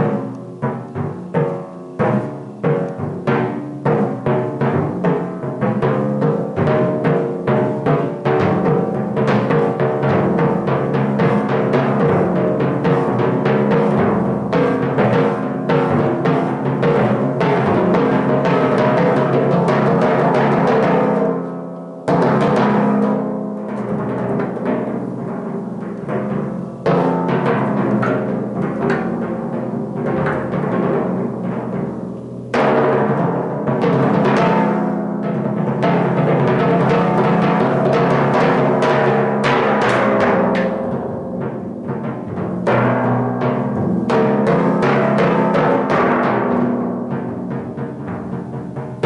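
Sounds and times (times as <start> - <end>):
timpani played with mallets: 0.0 - 49.0.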